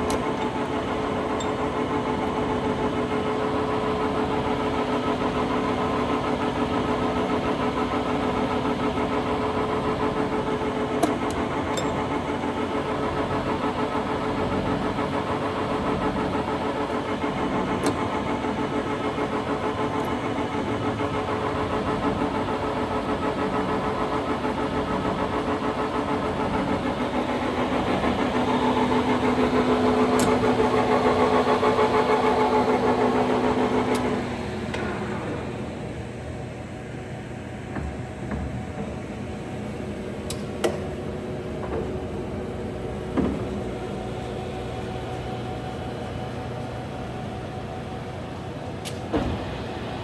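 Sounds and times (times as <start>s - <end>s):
lathe gear whine: 0.0s - 37.6s, 41.0s - 50.0s.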